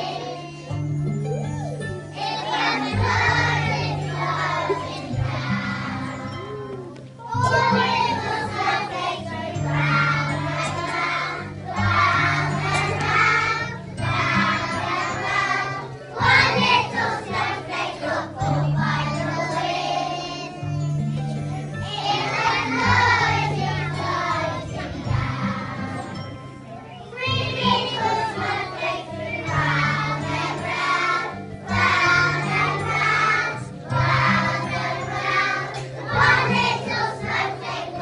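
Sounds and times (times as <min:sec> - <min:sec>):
instrumental accompaniment with bass: 0:00.0 - 0:37.8
children's choir singing: 0:00.0 - 0:38.0.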